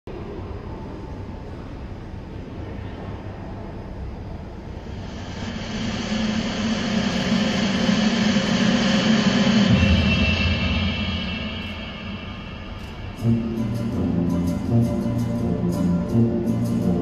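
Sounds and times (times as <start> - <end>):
droning hum: 0.1 - 17.0.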